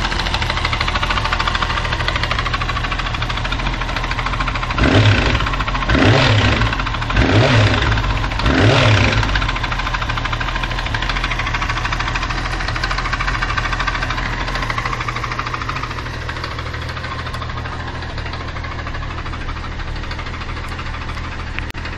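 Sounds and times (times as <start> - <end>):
engine knocking: 0.0 - 21.9
motorcycle engine revving and idling: 0.0 - 21.9.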